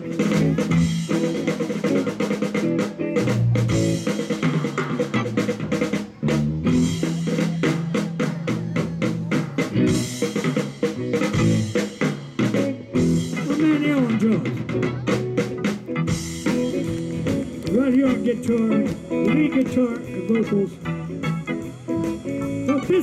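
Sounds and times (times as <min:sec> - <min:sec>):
bass guitar: 0:00.0 - 0:23.0
drum kit beat: 0:00.0 - 0:23.0
electric guitars: 0:00.0 - 0:23.0.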